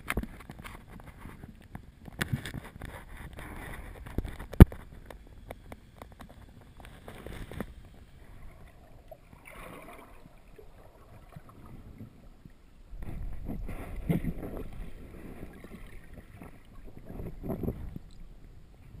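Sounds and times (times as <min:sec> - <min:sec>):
muffled underwater water movement: 0:00.0 - 0:19.0.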